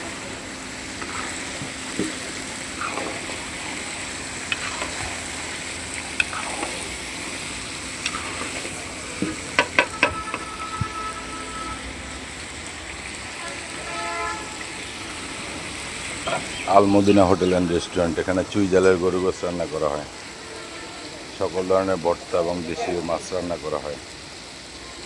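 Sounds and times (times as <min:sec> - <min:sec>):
food sizzling in frying: 0:00.0 - 0:25.0.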